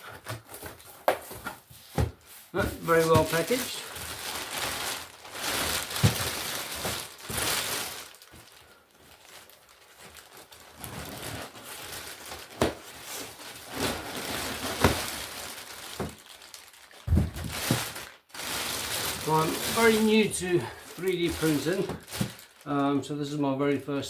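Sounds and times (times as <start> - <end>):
wrapping material crinkling: 0.0 - 23.0.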